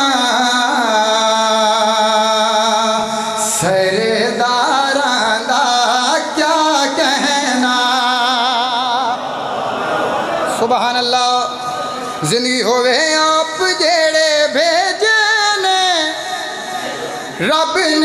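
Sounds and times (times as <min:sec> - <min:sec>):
man singing into a microphone: 0:00.0 - 0:09.3, 0:10.5 - 0:18.0.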